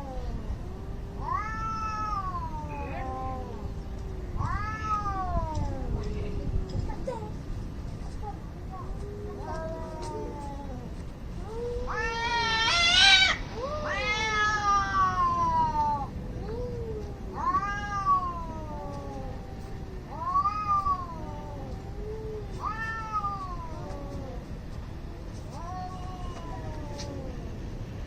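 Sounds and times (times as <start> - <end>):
cats yowling: 0.0 - 6.1, 8.8 - 24.5, 25.1 - 27.6.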